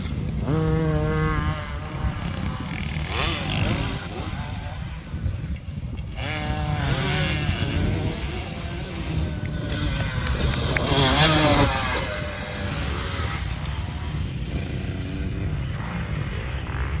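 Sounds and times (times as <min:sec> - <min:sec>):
motocross motorcycles revving: 0:00.0 - 0:17.0.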